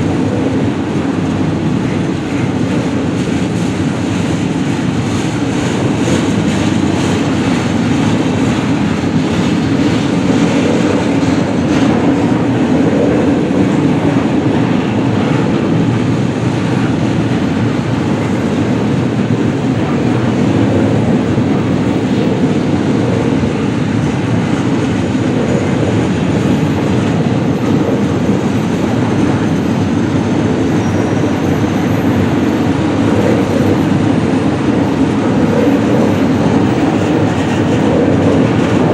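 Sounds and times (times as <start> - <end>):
train cars rumbling past: 0.0 - 38.9
wheel-on-rail clatter: 0.1 - 38.9.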